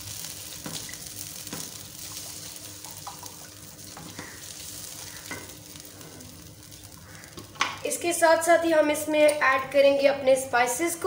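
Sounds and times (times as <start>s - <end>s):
sauce sizzling in oil: 0.0s - 9.1s.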